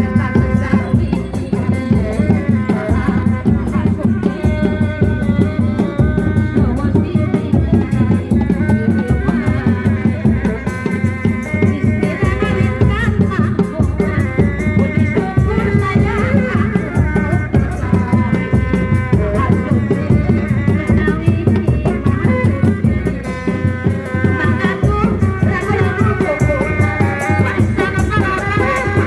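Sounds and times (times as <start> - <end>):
fast drumming: 0.0 - 29.0
rattling shaken percussion: 0.0 - 29.0.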